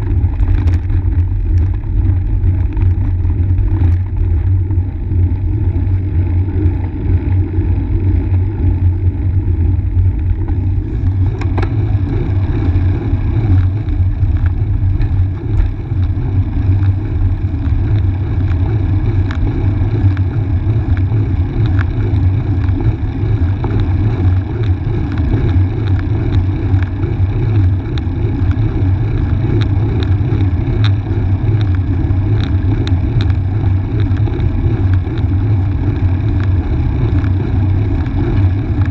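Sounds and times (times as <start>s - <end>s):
wind and road noise rumble: 0.0s - 38.9s.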